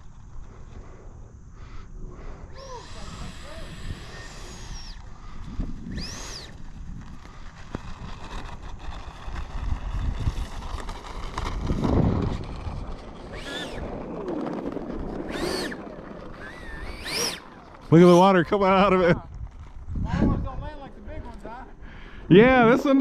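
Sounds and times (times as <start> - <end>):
wind rumble on microphone: 0.0 - 17.2, 18.4 - 21.4
electric ducted fan whine: 0.0 - 23.0.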